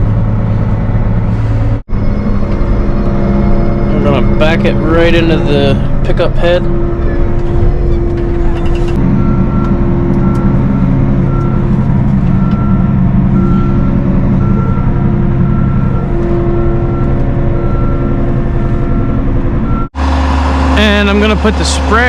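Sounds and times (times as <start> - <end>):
farm machine engine running: 0.0 - 22.0
reverse alarm beeping: 2.0 - 20.0.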